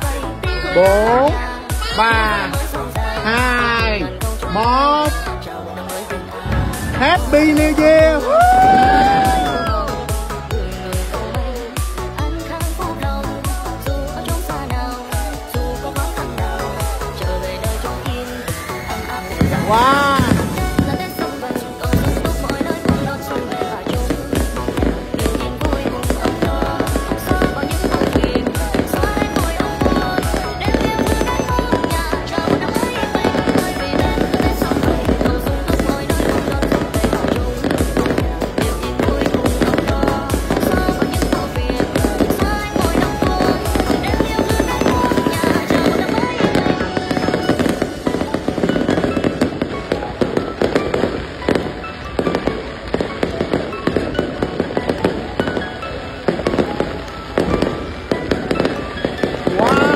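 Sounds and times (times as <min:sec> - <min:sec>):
fireworks bursting: 0:00.0 - 0:59.9
music playing: 0:00.0 - 0:59.9.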